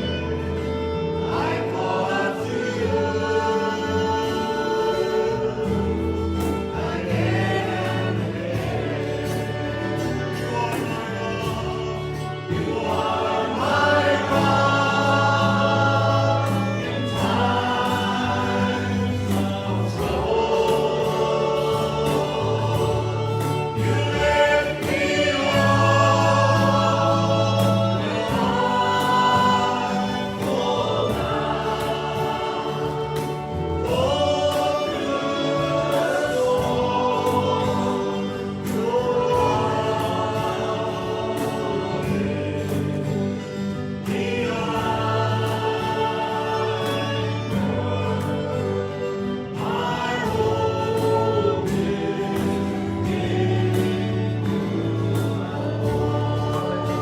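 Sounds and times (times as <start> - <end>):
accompaniment with bass notes: 0.0 - 57.0
congregation singing a hymn: 0.0 - 57.0.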